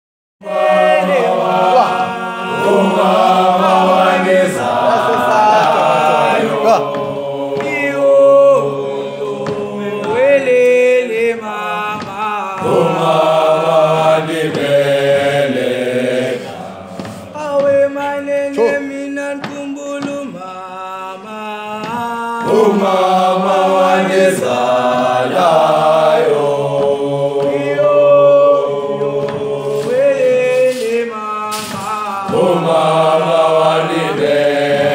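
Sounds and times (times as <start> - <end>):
male choir singing a cappella: 0.4 - 34.9.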